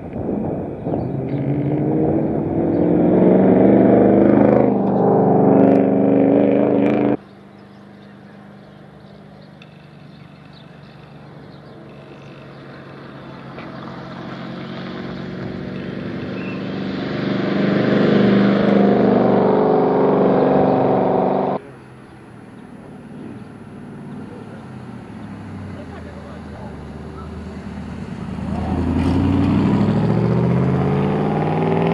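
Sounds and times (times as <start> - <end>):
quiet outdoor background: 0.0 - 31.9
rally car engine passing: 0.0 - 31.9.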